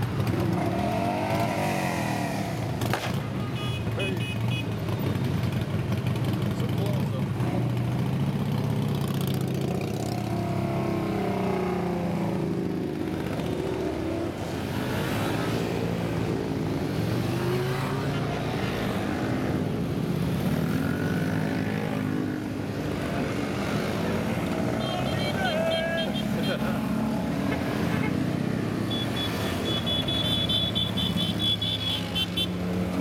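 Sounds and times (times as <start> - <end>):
motorcycles riding past: 0.0 - 3.4, 4.4 - 33.0.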